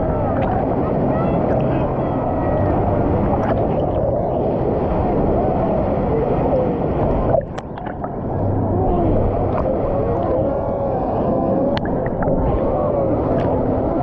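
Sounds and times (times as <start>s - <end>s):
distant crowd voices and shouts: 0.0s - 14.0s
muffled wash of water: 0.0s - 14.0s.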